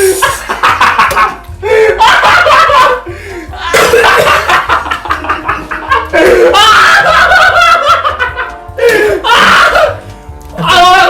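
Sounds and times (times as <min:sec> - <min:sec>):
people laughing loudly: 0:00.0 - 0:10.0.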